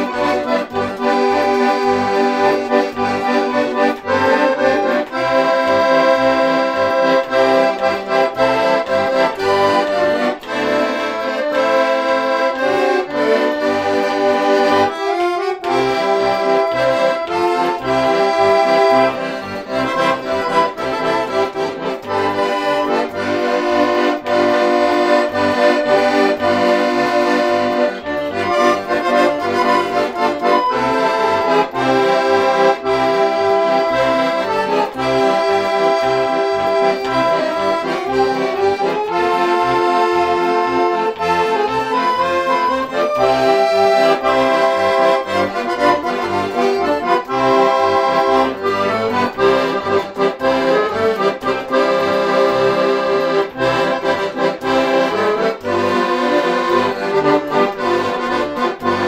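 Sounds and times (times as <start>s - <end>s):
accordions playing a polka: 0.0s - 59.0s.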